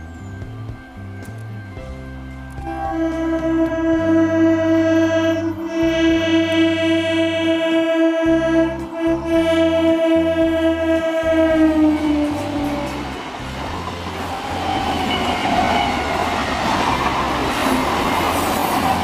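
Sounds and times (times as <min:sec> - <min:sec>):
train horn blast: 0:02.6 - 0:19.0.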